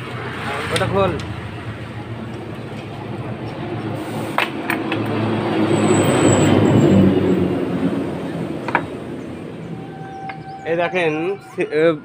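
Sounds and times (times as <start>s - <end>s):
heavy truck passing: 0.0s - 12.0s.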